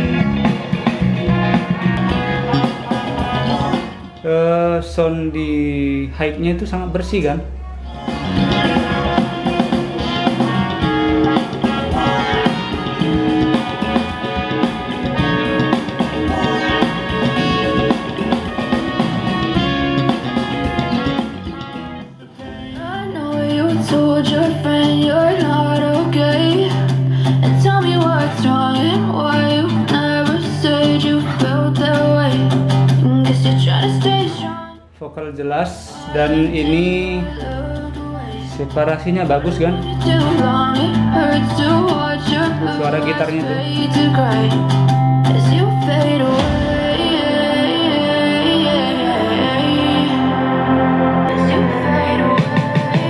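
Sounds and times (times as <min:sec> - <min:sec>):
song through speakers: 0:00.0 - 0:34.9, 0:35.5 - 0:53.0.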